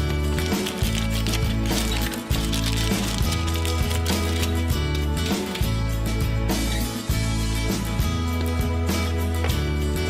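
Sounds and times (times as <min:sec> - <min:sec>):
upbeat guitar and bass music: 0:00.0 - 0:10.0.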